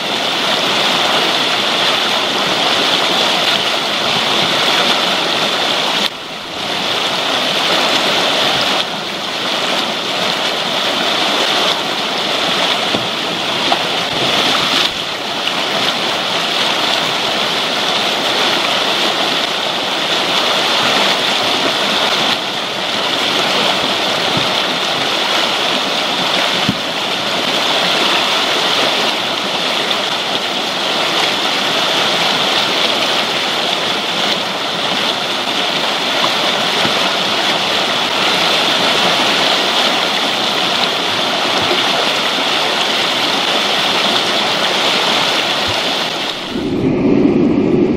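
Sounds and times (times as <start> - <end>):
river rapids roaring: 0.0 - 47.9.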